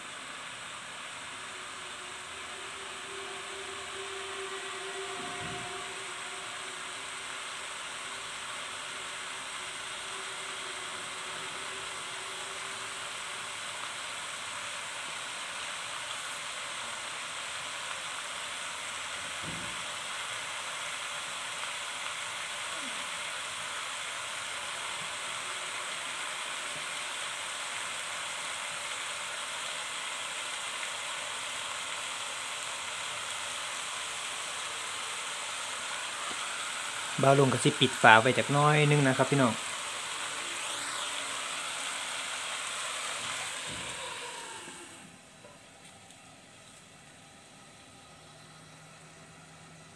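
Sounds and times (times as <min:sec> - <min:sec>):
chicken sizzling in a wok: 0:00.0 - 0:45.4.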